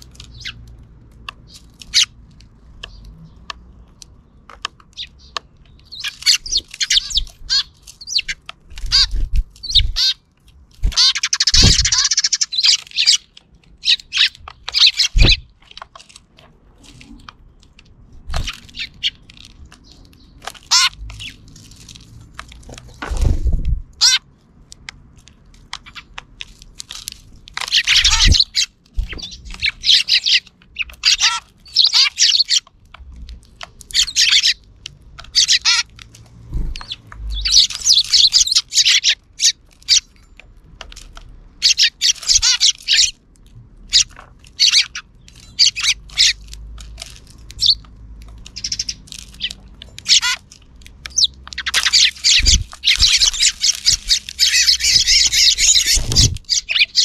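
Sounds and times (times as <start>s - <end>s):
sparrows chirping: 0.0s - 24.8s, 25.4s - 57.0s.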